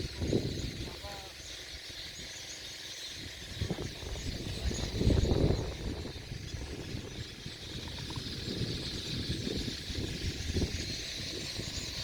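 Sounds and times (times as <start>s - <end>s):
wind buffeting microphone: 0.0s - 1.2s, 3.2s - 12.0s
flock of small birds chattering: 0.0s - 12.0s.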